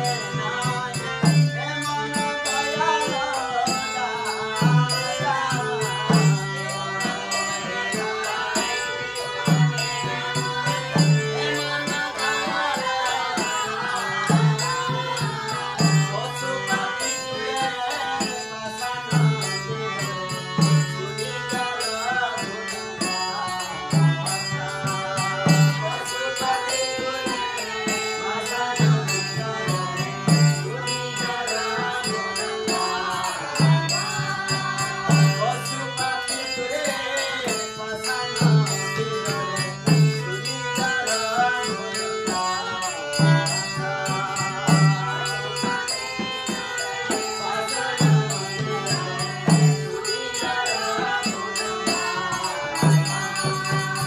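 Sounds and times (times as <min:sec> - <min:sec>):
voices chanting: 0:00.0 - 0:54.0.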